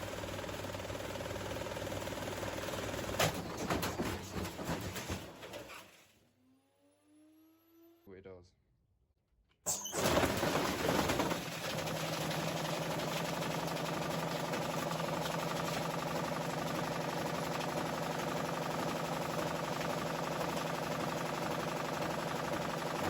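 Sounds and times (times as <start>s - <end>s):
washing machine running: 0.0s - 6.0s, 9.8s - 23.0s.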